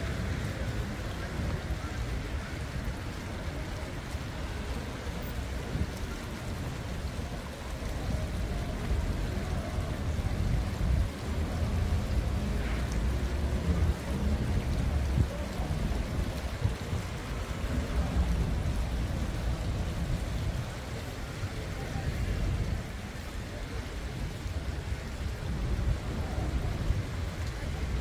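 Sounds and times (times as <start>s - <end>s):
low rumble of traffic: 0.0s - 28.0s.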